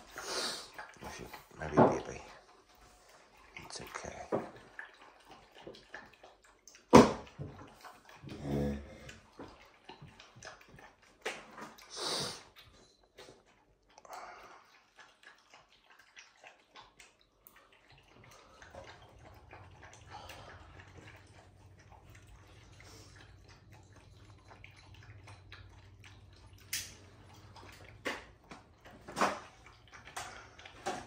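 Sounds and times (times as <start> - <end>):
puppy chewing and licking: 0.0 - 31.0.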